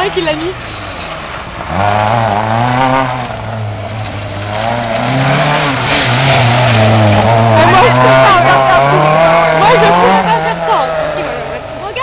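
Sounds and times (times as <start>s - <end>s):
car engine revving: 1.1s - 11.8s.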